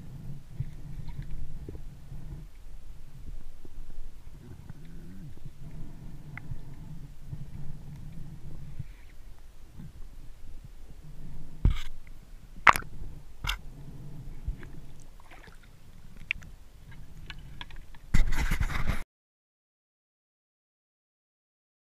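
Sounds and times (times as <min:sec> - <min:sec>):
low underwater rumbling: 0:00.0 - 0:18.4.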